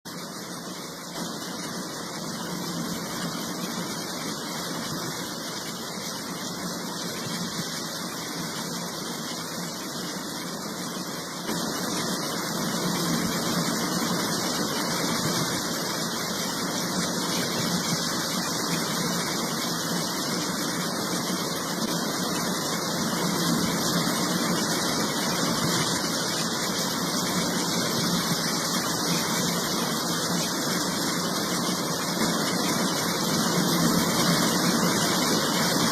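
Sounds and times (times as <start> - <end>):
waterfall roaring: 0.1 - 35.9.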